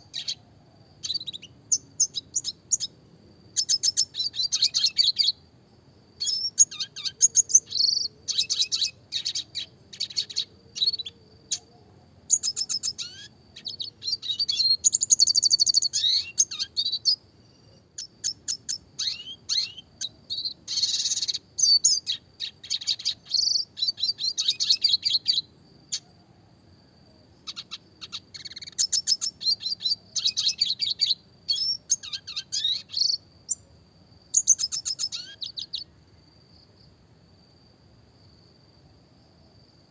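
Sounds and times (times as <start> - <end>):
bird singing chips and trills: 0.0 - 0.4, 1.0 - 5.4, 6.2 - 26.1, 27.4 - 33.7, 34.3 - 35.9.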